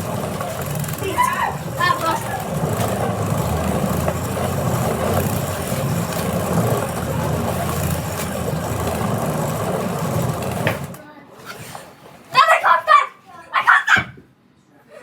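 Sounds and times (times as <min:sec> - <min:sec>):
swivel chair spinning rumble: 0:00.0 - 0:13.7.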